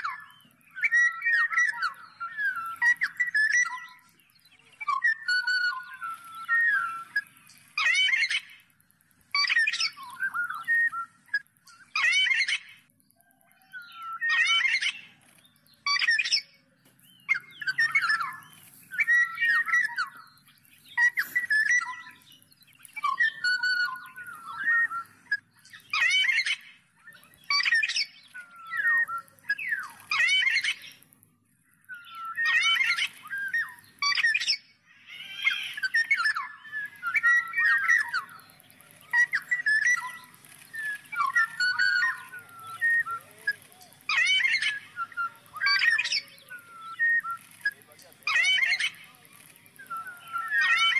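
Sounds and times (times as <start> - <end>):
bird calling and singing: 0.0 - 50.9.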